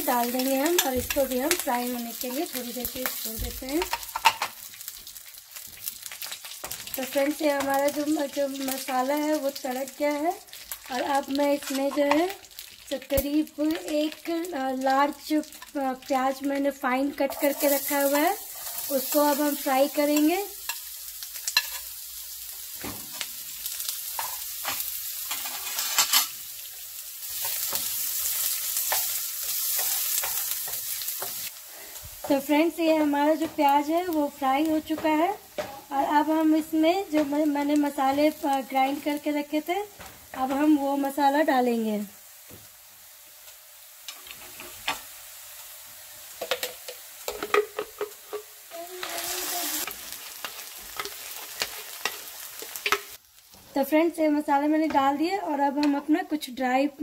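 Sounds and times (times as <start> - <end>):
onion sizzling in oil: 0.0 - 57.0.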